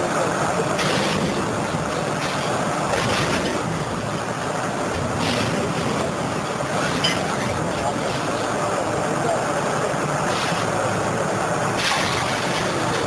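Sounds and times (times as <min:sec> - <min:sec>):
diesel engine and hydraulics: 0:00.0 - 0:13.0.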